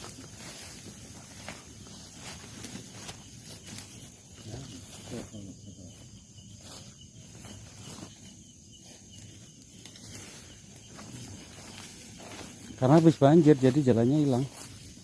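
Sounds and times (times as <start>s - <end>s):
footsteps in undergrowth: 0.0s - 15.0s
high-pitched insect drone: 0.0s - 15.0s
rustling undergrowth: 0.0s - 15.0s.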